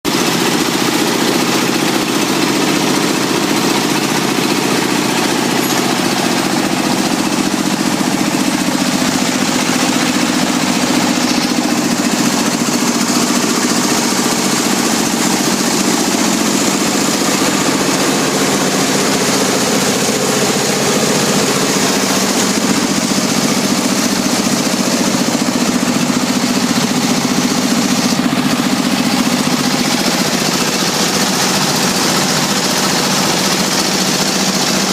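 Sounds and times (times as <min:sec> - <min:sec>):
milling machine droning: 0:00.1 - 0:34.9.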